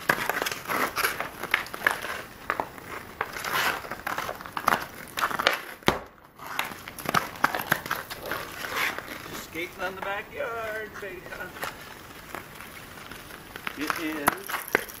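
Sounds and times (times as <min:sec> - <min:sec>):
hockey stick tapping puck: 0:00.0 - 0:10.8, 0:13.6 - 0:15.0
ice cracking: 0:00.0 - 0:15.0
skate blades scraping ice: 0:00.0 - 0:15.0.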